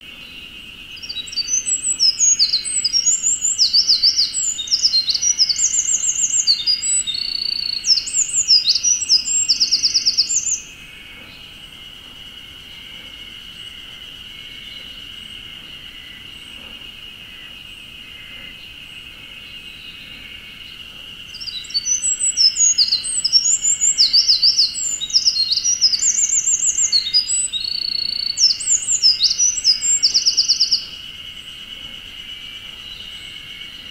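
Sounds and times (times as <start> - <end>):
wren singing trills and warbles: 0.0 - 33.9.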